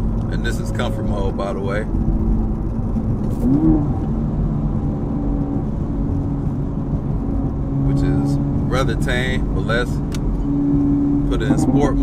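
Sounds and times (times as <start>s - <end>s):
car exhaust drone: 0.0s - 12.0s.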